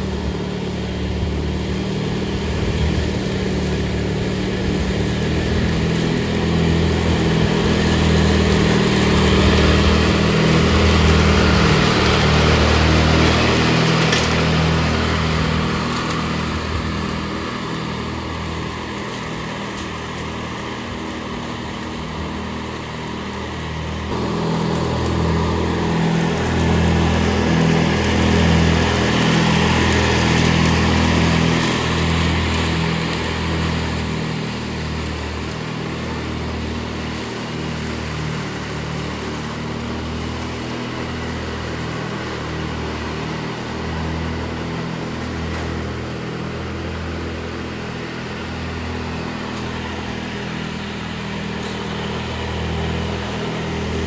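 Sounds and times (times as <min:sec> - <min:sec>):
ride-on mower engine: 0:00.0 - 0:54.0.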